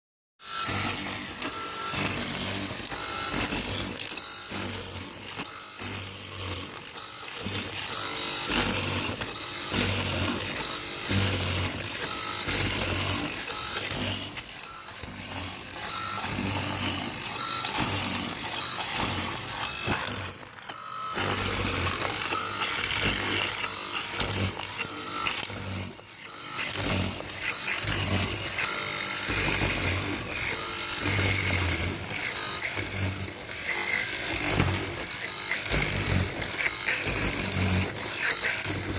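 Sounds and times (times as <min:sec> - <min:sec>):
router motor cutting wood: 0:00.4 - 0:38.9.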